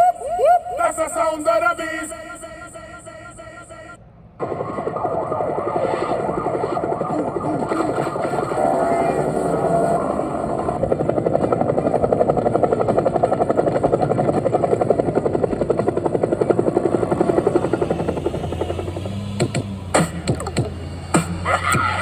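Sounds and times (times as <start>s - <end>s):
rapidly pulsing mechanical drone: 0.0s - 22.0s.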